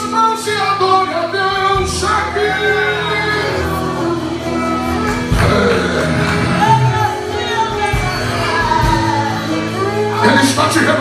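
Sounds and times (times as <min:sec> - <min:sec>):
keyboard sustained chords: 0:00.0 - 0:11.0
voices singing: 0:00.0 - 0:11.0.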